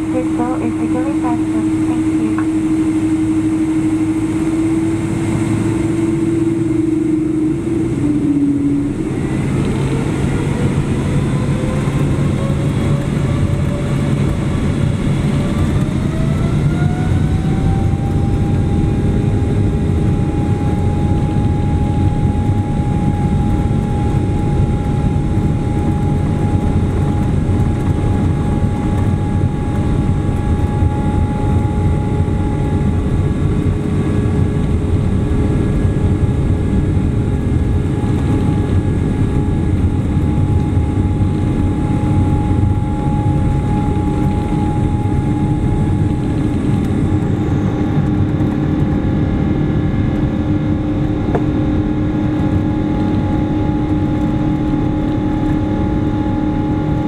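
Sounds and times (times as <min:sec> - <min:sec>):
runway rumble: 0:00.0 - 0:55.8
engine whining tones: 0:00.0 - 0:57.0
jet engines roaring: 0:00.0 - 0:57.0
low hum: 0:00.0 - 0:57.0.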